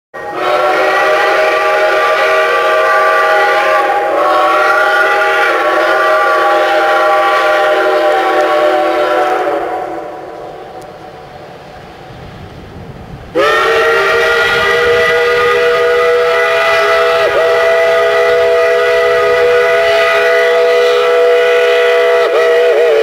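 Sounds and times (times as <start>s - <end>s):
steam locomotive whistle: 0.1s - 11.3s, 13.3s - 23.0s.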